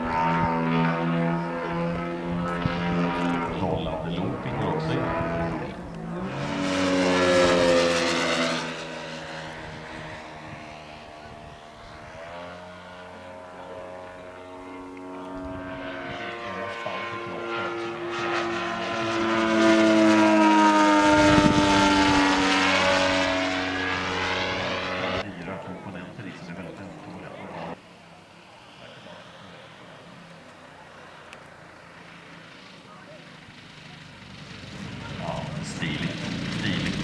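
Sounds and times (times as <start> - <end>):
model airplane motor flying past: 0.0 - 37.0.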